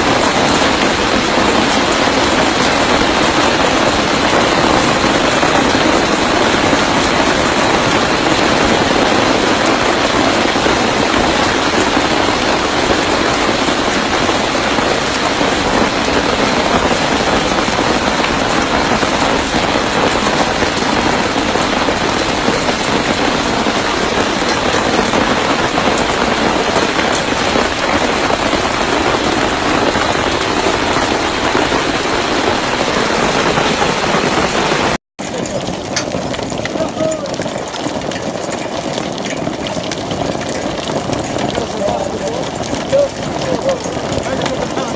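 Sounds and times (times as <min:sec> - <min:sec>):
heavy rain pattering on surfaces: 0:00.0 - 0:44.9.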